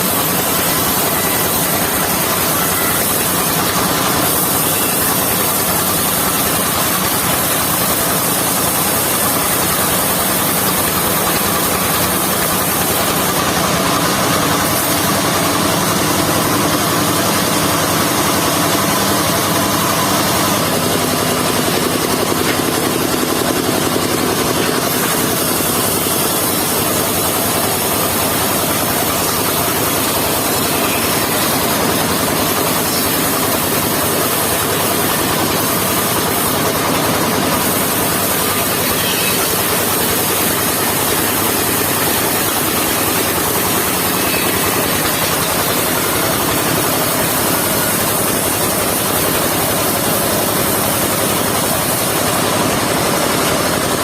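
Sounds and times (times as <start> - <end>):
engine-driven sawmill running: 0.0 - 54.0.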